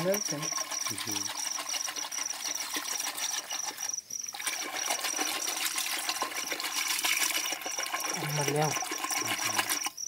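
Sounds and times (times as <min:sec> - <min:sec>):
curd sloshing in a pot: 0:00.0 - 0:09.9.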